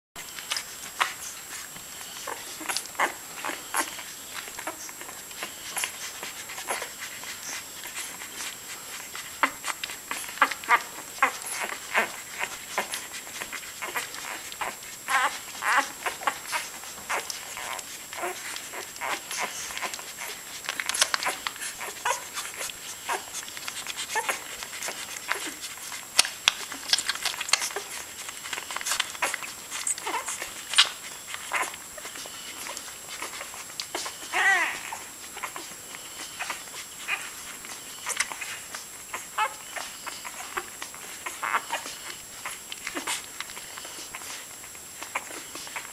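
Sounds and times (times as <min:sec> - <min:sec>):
puppies sucking: 0:00.2 - 0:45.9
puppies squeaking and whimpering: 0:00.4 - 0:45.9.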